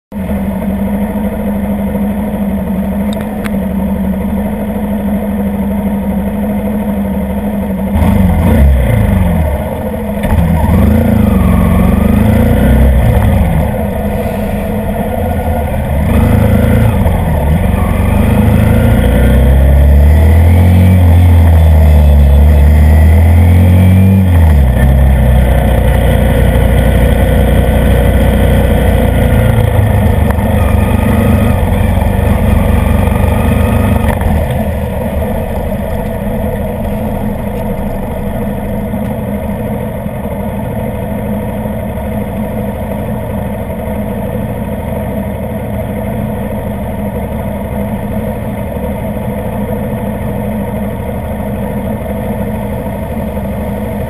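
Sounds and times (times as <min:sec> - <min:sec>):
motorcycle engine revving: 0:00.2 - 0:54.0.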